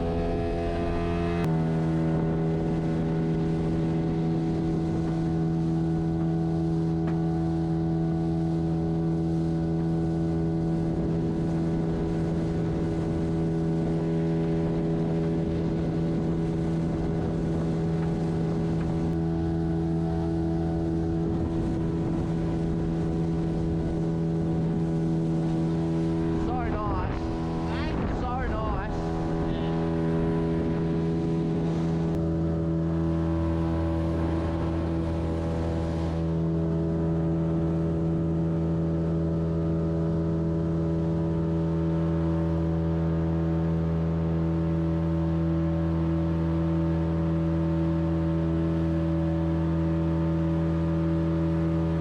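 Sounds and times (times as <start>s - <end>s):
boat motor running: 0.0s - 52.0s
water and wind noise: 0.0s - 52.0s.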